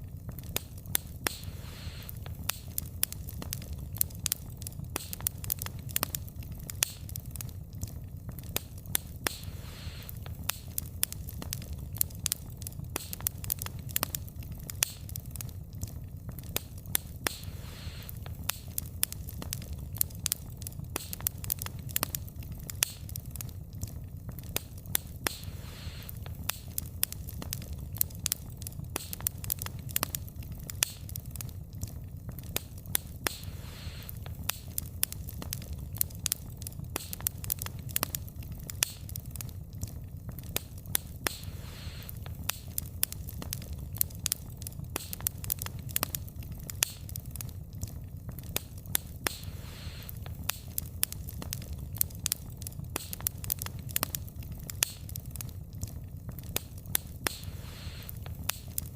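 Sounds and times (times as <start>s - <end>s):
soft hiss: 0.0s - 58.9s
wood fire crackling: 0.0s - 58.9s.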